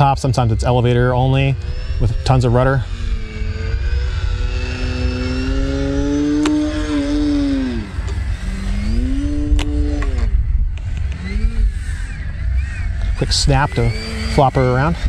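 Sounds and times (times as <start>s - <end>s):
model plane motor buzzing: 0.0s - 15.0s
wind rumble on microphone: 0.0s - 15.0s.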